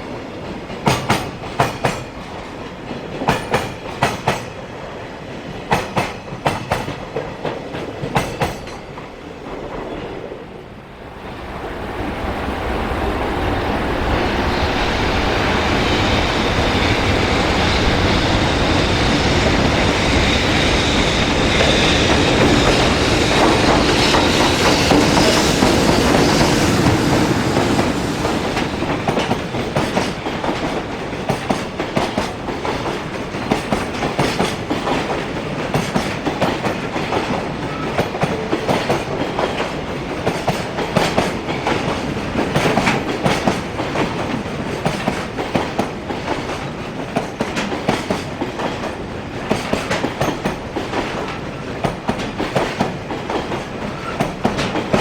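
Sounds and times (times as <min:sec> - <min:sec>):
freight train passing: 0:00.0 - 0:55.0
train wheels clacking over joints: 0:00.4 - 0:04.6, 0:05.3 - 0:09.2, 0:16.8 - 0:55.0.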